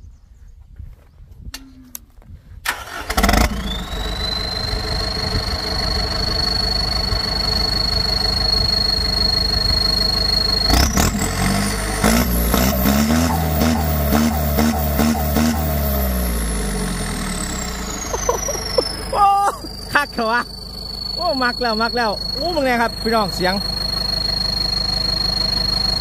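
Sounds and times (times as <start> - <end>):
tractor diesel engine: 2.6 - 26.0
turbocharger whistle: 3.2 - 26.0.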